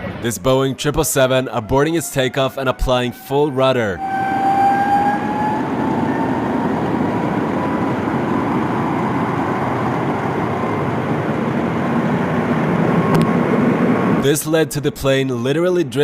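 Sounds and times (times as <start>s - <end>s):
jet engines running loud: 0.0s - 15.3s.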